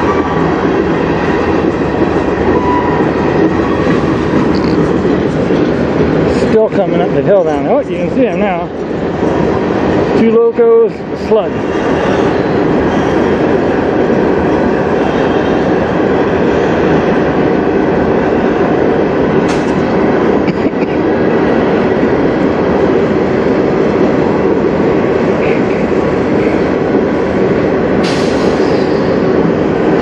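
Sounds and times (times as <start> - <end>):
train wheel and rail noise: 0.0 - 30.0.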